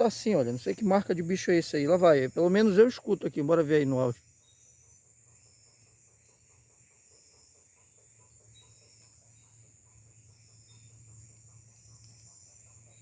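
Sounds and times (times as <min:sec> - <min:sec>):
high insect buzz: 0:00.0 - 0:13.0.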